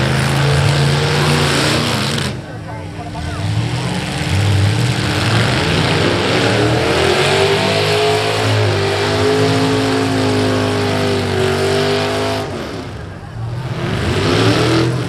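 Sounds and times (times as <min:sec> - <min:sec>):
engine at high revs: 0:00.0 - 0:15.0.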